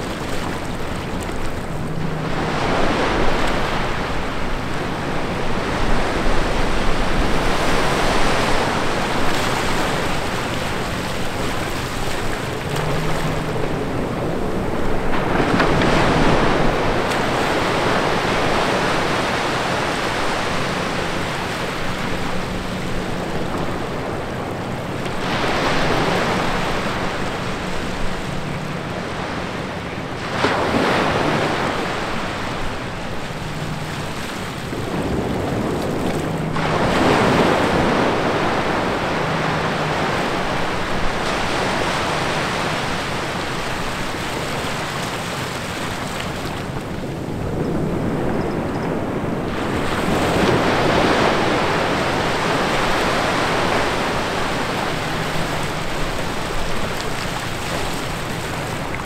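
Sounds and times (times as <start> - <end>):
ocean waves breaking on sand: 0.0 - 59.0.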